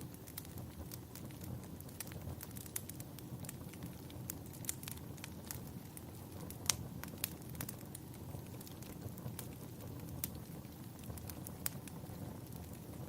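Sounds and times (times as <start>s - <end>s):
low steady fire rumble: 0.0s - 13.0s
wood fire crackling and popping: 0.0s - 13.0s.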